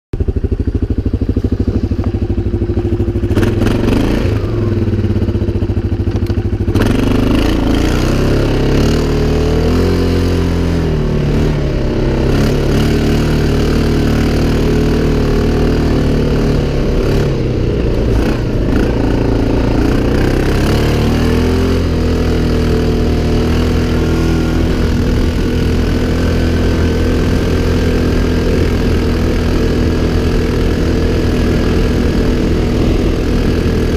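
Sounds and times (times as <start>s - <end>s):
atv engine revving: 0.2s - 33.9s.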